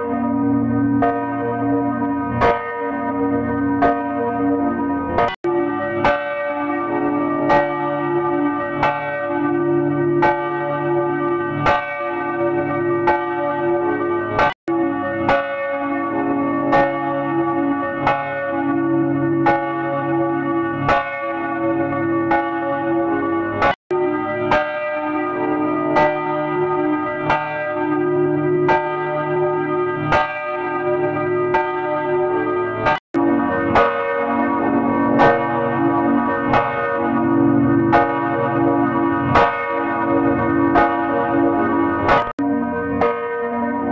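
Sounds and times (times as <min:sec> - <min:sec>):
church bells pealing: 0:00.0 - 0:43.9.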